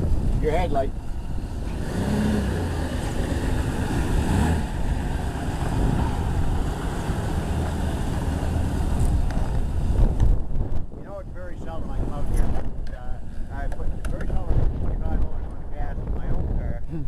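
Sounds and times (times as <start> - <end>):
vehicle engine rumbling: 0.0 - 17.0
wind noise on microphone: 0.0 - 17.0.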